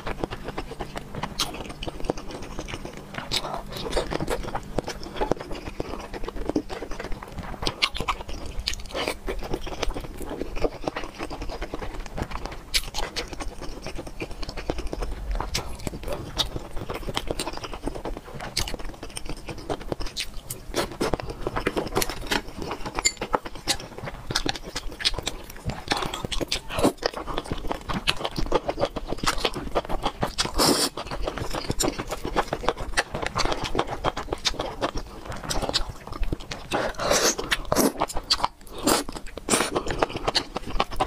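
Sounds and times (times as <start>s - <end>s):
chewing and slurping: 0.0s - 41.0s.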